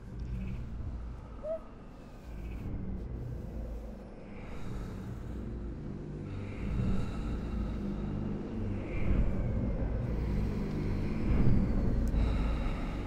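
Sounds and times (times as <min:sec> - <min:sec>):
wind turbine drone: 0:00.0 - 0:13.0.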